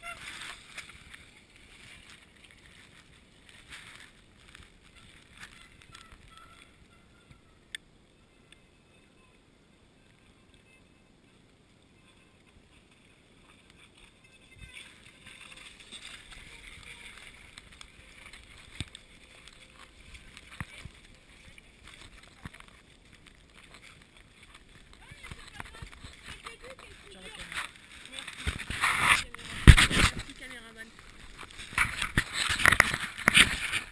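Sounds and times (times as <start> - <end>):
bike tyres hissing through mud: 0.0 - 6.9, 12.6 - 33.9.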